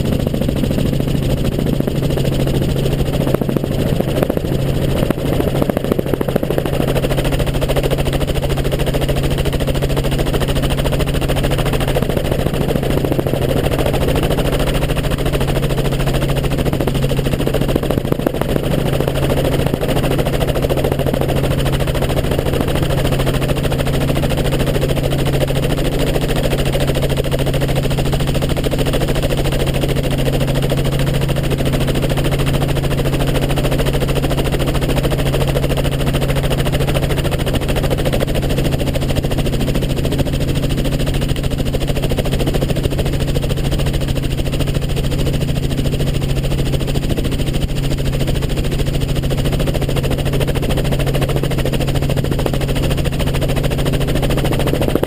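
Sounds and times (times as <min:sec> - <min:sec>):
helicopter rotor chop: 0:00.0 - 0:55.0.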